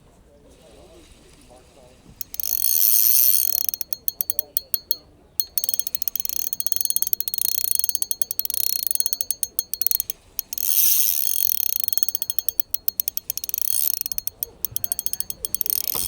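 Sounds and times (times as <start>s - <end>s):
fishing reel clicking: 2.2s - 16.0s.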